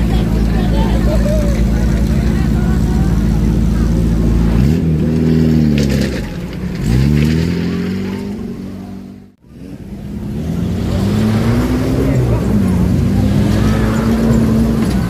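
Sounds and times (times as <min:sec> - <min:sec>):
jeep engine revving: 0:00.0 - 0:15.0.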